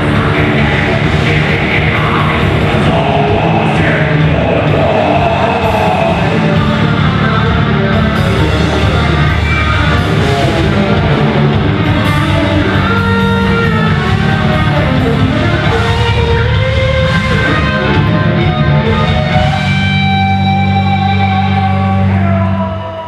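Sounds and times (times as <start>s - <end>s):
electric guitars: 0.0s - 23.0s
rock band playing live: 0.0s - 23.0s.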